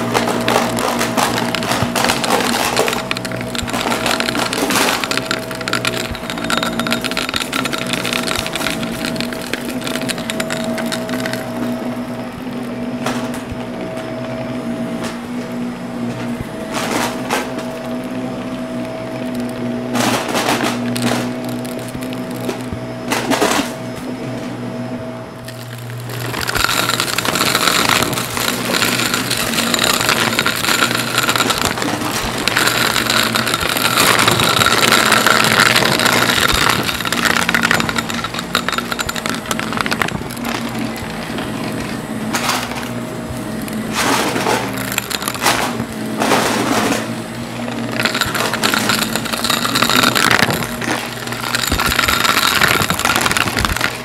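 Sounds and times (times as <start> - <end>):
confetti clicking in vacuum: 0.0 - 12.4, 18.8 - 23.7, 25.4 - 54.0
vacuum cleaner motor hum: 0.0 - 54.0.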